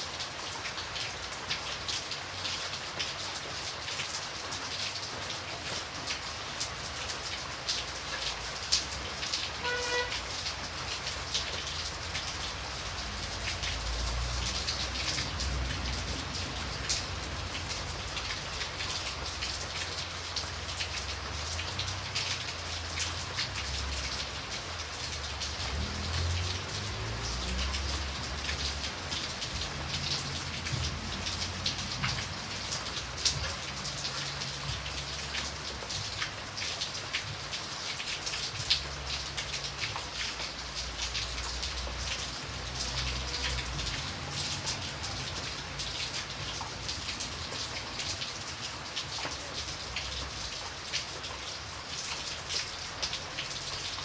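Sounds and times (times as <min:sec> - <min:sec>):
raindrops clicking close by: 0:00.0 - 0:54.0
steady rain falling: 0:00.0 - 0:54.0.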